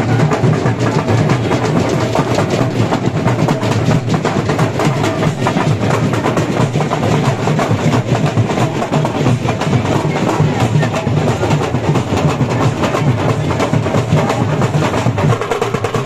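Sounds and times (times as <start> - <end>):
drums beating: 0.0 - 16.0.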